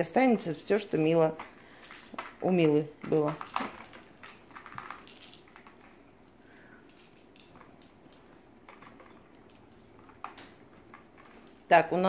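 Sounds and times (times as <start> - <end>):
small plastic balls clicking: 0.4 - 11.8.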